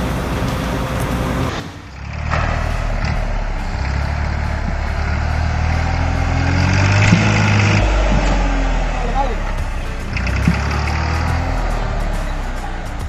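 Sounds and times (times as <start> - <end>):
heavy vehicle engine revving: 0.0 - 13.0.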